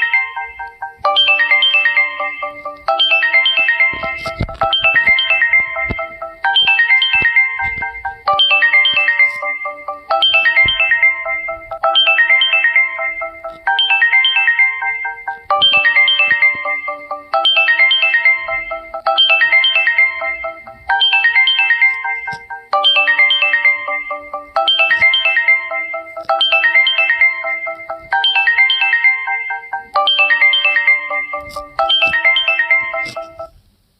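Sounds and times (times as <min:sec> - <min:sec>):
phone ringtone melody: 0:00.0 - 0:33.6.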